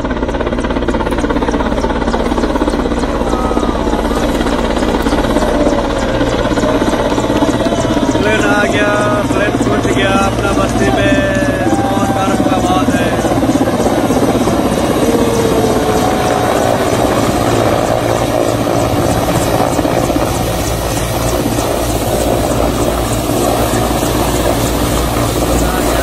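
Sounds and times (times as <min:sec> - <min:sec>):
helicopter rotor beating: 0:00.0 - 0:26.0
helicopter turbine noise: 0:00.0 - 0:26.0.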